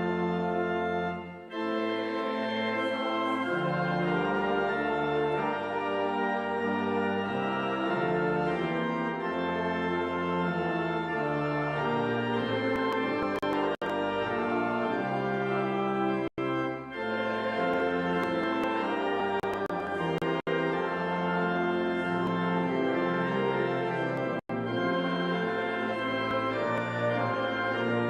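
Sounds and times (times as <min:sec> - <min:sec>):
church organ chords: 0:00.0 - 0:28.0.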